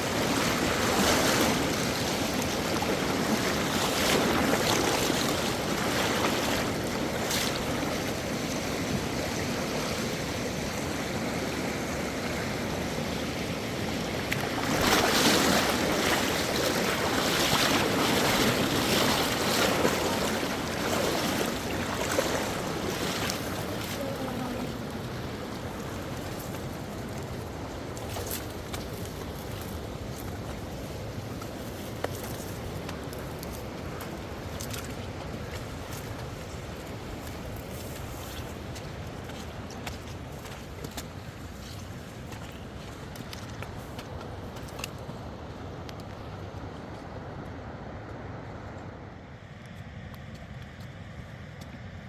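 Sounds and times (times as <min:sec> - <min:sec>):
rushing river water: 0:00.0 - 0:49.4.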